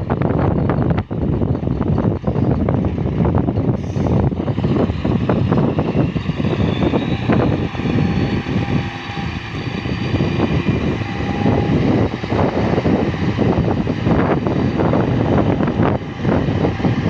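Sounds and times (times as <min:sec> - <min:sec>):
diesel engine running: 0:00.0 - 0:17.0
wind buffeting microphone: 0:00.0 - 0:17.0.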